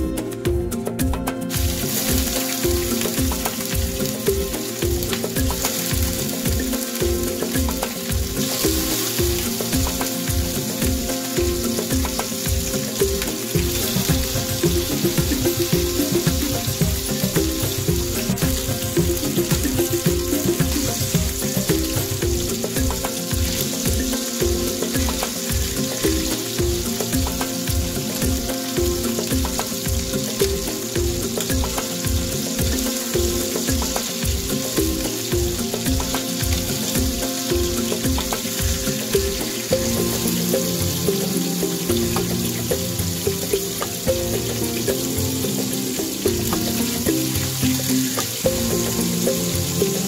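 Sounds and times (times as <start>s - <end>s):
background music with beat: 0.0s - 50.0s
fish sizzling in hot oil: 0.0s - 50.0s.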